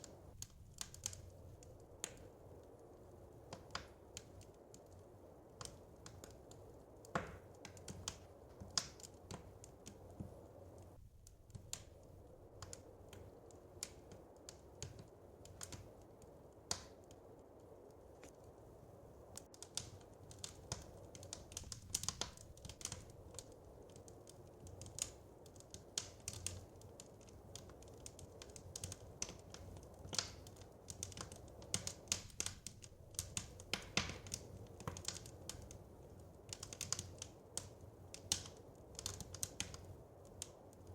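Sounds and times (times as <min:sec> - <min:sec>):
low fire rumble: 0:00.0 - 0:40.9
wood fire crackling: 0:00.0 - 0:40.9.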